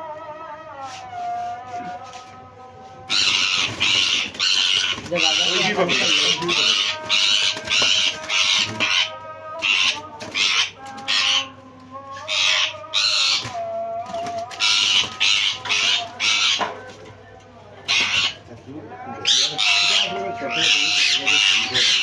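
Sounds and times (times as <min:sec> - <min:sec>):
parakeets screeching: 0:03.1 - 0:16.9, 0:17.8 - 0:22.0.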